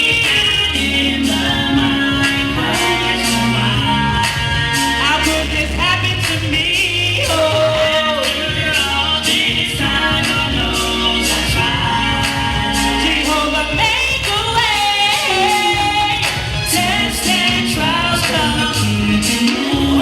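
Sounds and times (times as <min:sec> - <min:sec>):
steady bass line: 0:00.0 - 0:20.0
sung melody: 0:00.0 - 0:20.0.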